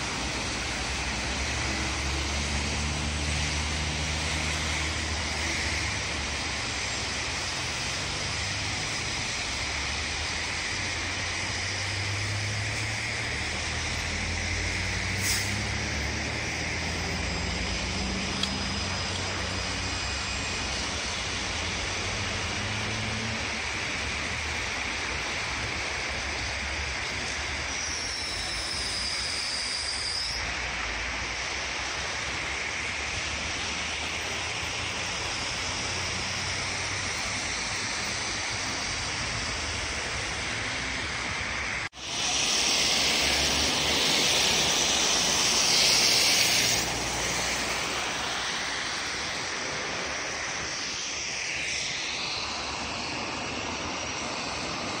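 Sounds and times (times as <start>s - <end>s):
high whine: 0.0s - 55.0s
tyres hissing on road: 0.0s - 55.0s.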